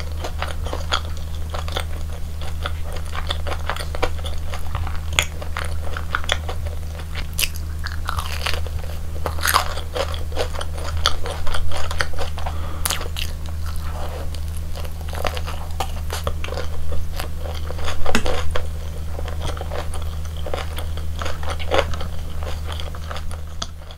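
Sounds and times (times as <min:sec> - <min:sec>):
crunchy biting and chewing: 0:00.0 - 0:23.9
steady low hum: 0:00.0 - 0:23.9.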